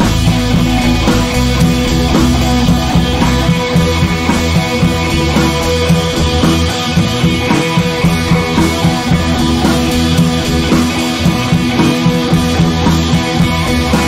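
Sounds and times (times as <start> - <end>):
music with steady beat: 0.0 - 14.0.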